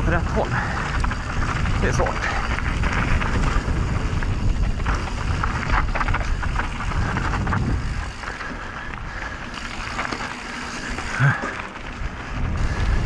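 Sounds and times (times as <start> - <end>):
bike tyres rolling on dirt: 0.0 - 13.0
wind rumble on microphone: 0.0 - 13.0.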